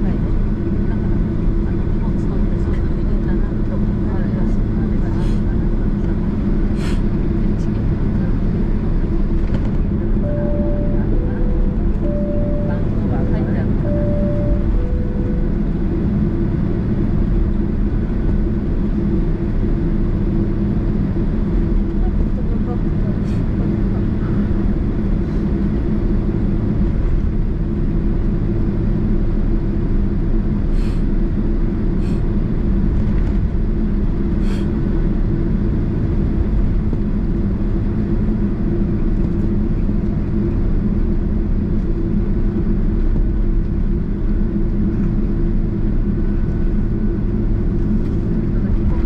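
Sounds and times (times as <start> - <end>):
aircraft cabin rumble: 0.0 - 49.0.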